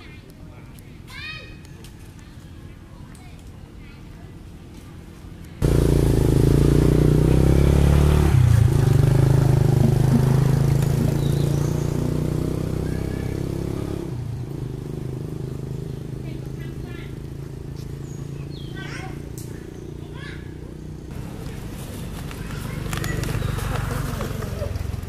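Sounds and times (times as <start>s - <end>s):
engine running: 4.7s - 25.0s.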